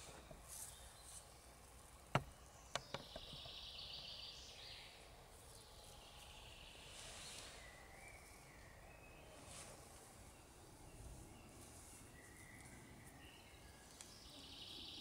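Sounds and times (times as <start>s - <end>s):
soft high hiss: 0.0s - 15.0s.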